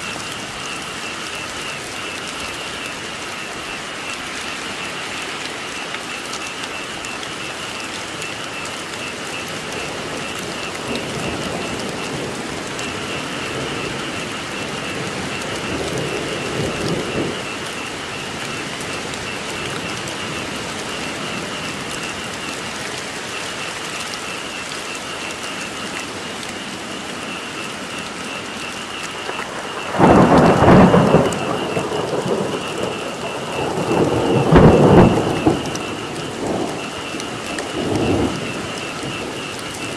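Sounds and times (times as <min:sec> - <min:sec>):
frogs calling in chorus: 0:00.0 - 0:39.9
heavy rain falling: 0:00.0 - 0:39.9
thunder rumbles: 0:00.0 - 0:39.9.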